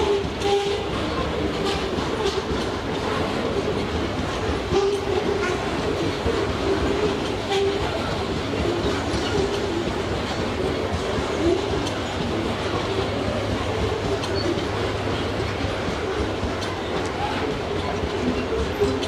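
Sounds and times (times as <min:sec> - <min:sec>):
steel wheels rumbling on rail: 0:00.0 - 0:19.0
wheel clacks: 0:00.0 - 0:19.0.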